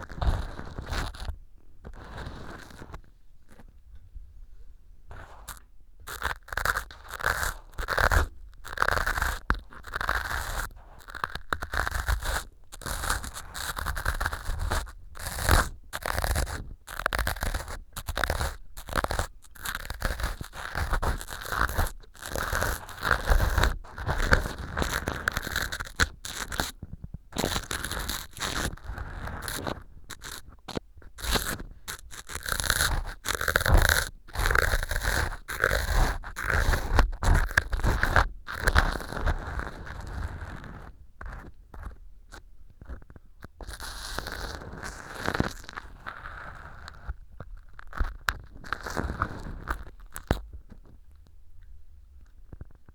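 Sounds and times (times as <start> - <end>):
ear pick scraping dry foam: 0.0 - 3.6, 5.1 - 50.9.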